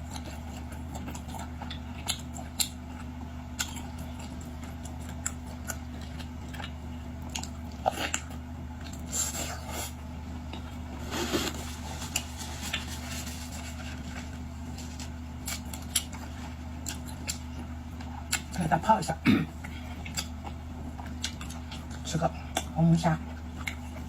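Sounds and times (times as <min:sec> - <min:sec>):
biting and chewing seafood: 0:00.0 - 0:24.0
low electrical hum: 0:00.0 - 0:24.0.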